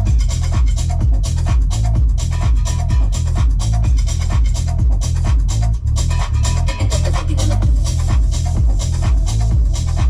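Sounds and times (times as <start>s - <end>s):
electronic dance music with heavy bass: 0.0s - 10.0s.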